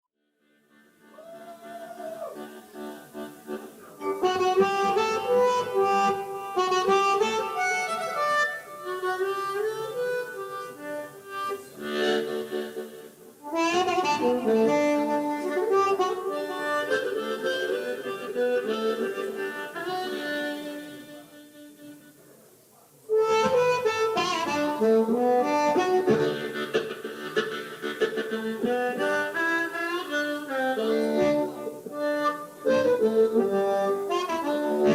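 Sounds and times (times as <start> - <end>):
blues harmonica playing: 0.4 - 22.2, 23.1 - 34.9.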